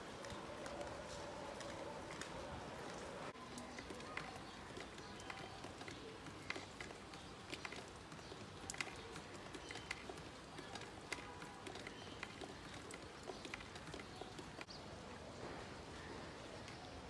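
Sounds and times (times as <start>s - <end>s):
drips tapping: 0.0s - 14.8s
rain on wet concrete: 0.0s - 17.0s.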